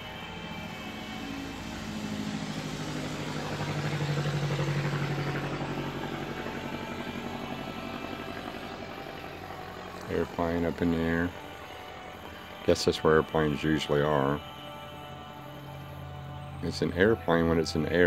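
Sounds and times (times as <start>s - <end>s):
airplane engine droning overhead: 0.0s - 18.0s.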